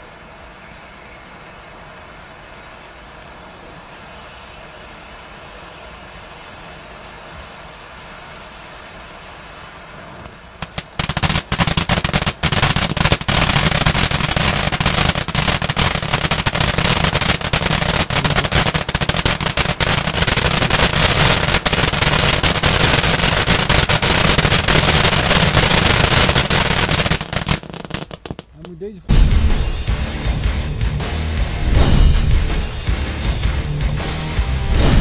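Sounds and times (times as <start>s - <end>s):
firework fountain hissing and crackling: 0.0s - 30.4s.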